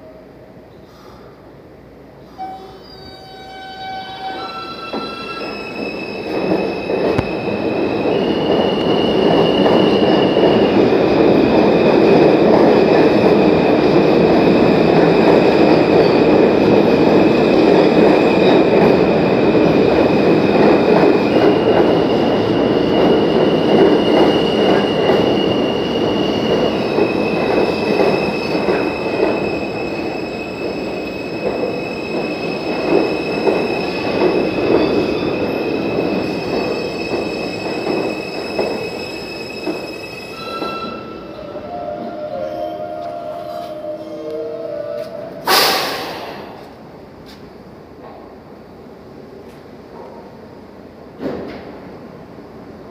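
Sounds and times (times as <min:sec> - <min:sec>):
train wheels rumbling on rail: 0:03.2 - 0:52.9.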